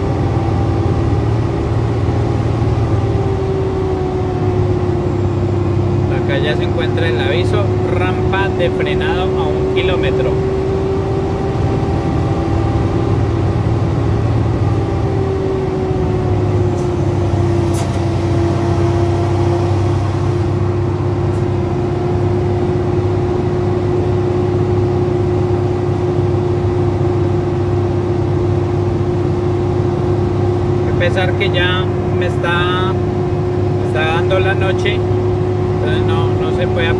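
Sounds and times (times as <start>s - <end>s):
truck engine drone: 0.0s - 36.9s.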